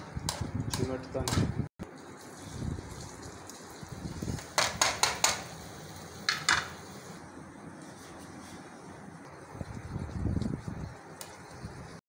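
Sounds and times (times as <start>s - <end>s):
oil sizzling: 1.8s - 12.0s.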